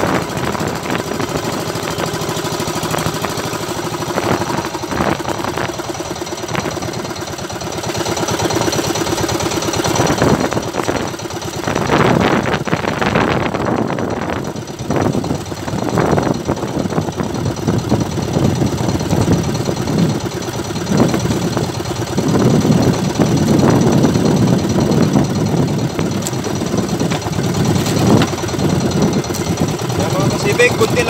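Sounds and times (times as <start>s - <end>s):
small boat engine running: 0.0s - 31.0s
wind: 0.0s - 31.0s.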